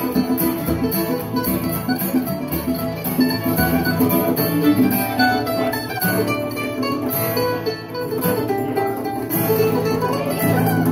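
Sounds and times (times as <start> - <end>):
acoustic guitar strummed: 0.0 - 10.9.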